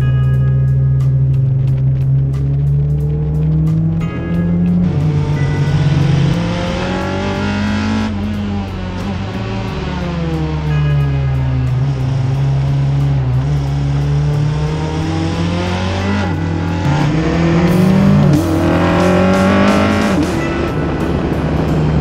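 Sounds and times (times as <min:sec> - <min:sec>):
background music: 0:00.0 - 0:22.0
race car engine accelerating: 0:00.7 - 0:22.0.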